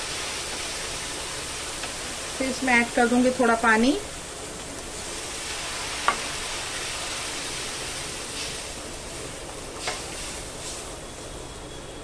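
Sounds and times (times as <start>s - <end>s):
sauce sizzling in a frying pan: 0.0s - 11.9s.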